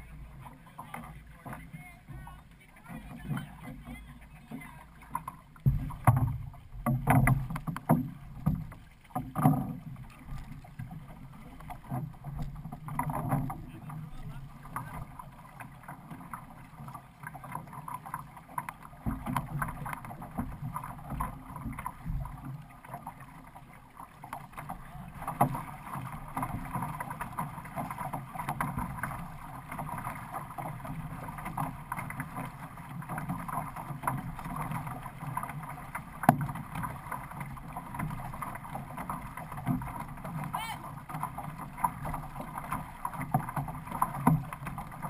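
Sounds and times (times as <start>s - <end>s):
paddle strokes splashing: 0.0s - 45.0s
water rushing along hull: 0.0s - 45.0s.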